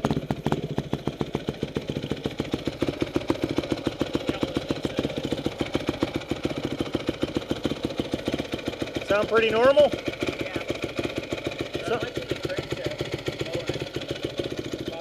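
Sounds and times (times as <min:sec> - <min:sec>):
motorcycle engine idling with rattle: 0:00.0 - 0:15.0.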